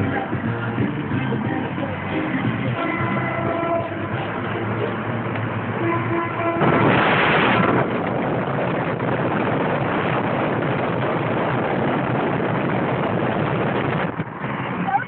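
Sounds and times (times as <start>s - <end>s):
road noise: 0.0s - 15.0s
wind noise inside car: 0.0s - 15.0s.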